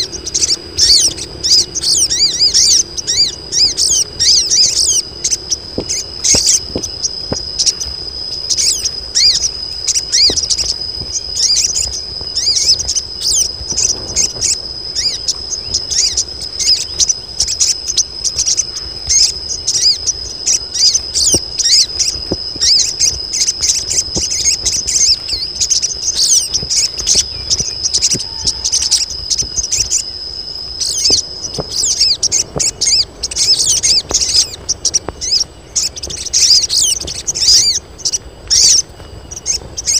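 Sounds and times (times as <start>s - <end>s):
insects chirping rapidly: 0.0s - 39.9s
steady high buzz: 0.0s - 39.9s.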